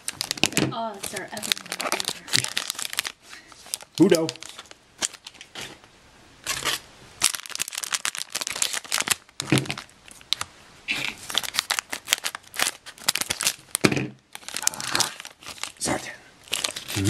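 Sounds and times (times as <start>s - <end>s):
plastic packet crinkling: 0.0s - 5.8s, 6.4s - 10.5s, 11.2s - 17.0s.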